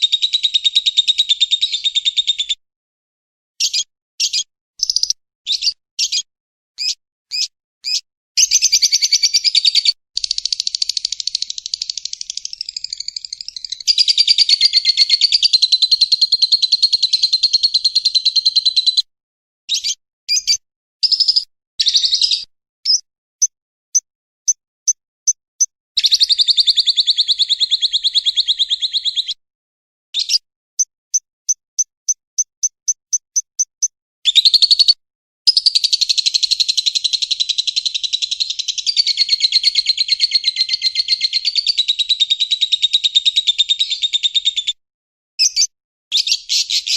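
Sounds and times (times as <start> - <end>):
evenly spaced bird chirps: 0.0 - 2.6, 3.6 - 19.1, 19.7 - 29.4, 30.2 - 44.8, 45.4 - 46.9
recorded bird song trills: 0.0 - 2.6, 3.6 - 19.1, 19.7 - 29.4, 30.2 - 44.8, 45.4 - 46.9.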